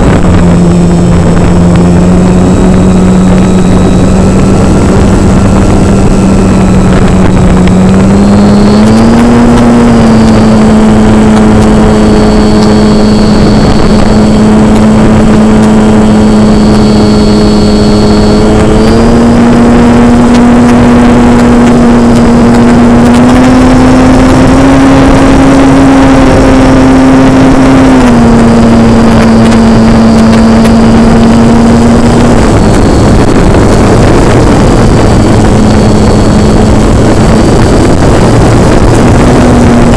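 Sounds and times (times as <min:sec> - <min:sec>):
model airplane motor whining: 0:00.0 - 0:39.9
wind rush on microphone: 0:00.0 - 0:39.9.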